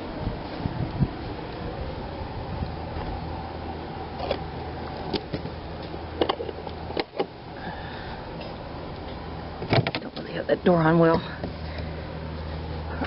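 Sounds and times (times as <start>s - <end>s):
generator humming: 0.0s - 13.0s.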